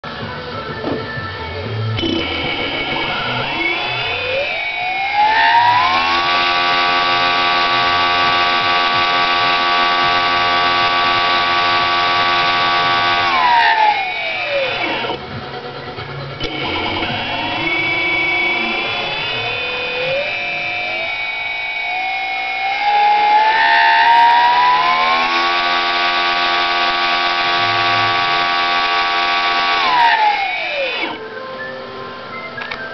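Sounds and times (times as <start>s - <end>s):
hydraulic pump motor whine: 0.0s - 32.9s.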